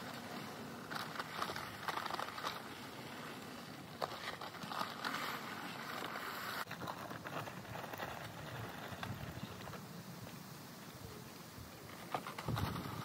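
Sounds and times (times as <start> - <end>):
dry concrete mix pouring: 0.0 - 10.0, 11.0 - 13.0.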